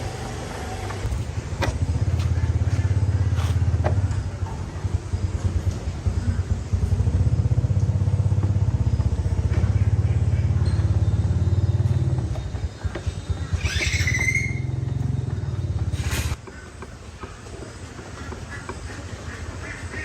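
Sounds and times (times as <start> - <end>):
small motorbike engine running: 0.0 - 20.0.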